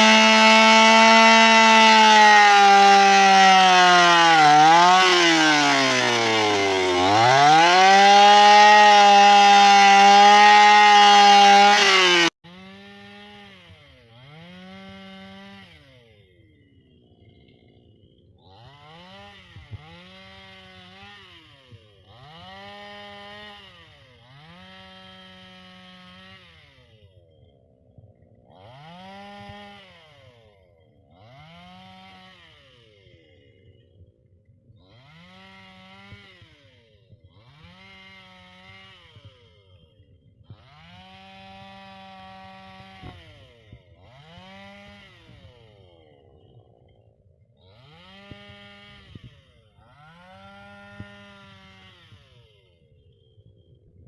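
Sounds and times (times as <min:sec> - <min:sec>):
chainsaw engine revving: 0:00.0 - 0:34.0, 0:34.8 - 0:53.8.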